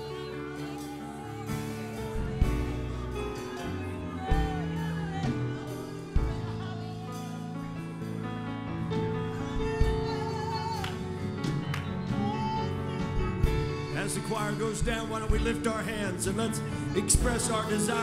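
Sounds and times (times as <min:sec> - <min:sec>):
gospel music with singing: 0:00.0 - 0:18.0.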